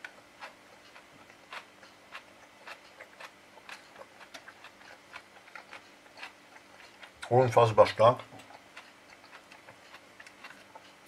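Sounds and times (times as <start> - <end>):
person chewing bread: 0.0 - 11.0.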